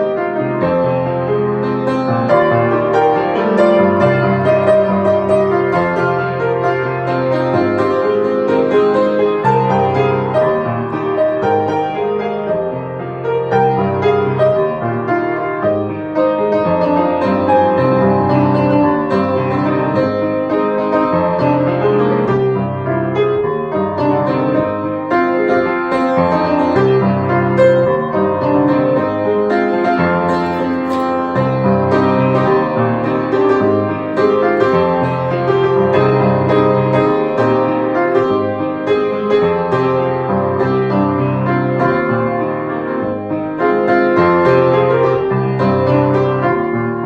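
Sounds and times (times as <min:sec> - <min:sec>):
solo piano playing: 0:00.0 - 0:47.0.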